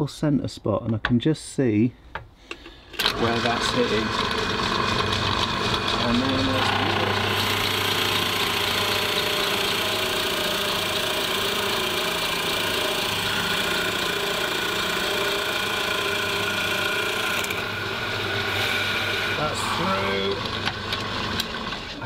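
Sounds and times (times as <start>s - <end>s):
drill bit cutting wood: 3.0s - 22.0s
drill motor hum: 3.0s - 22.0s.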